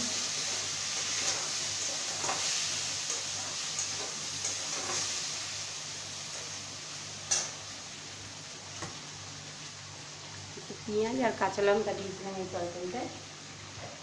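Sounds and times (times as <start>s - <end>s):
curry frying hiss: 0.0s - 14.0s.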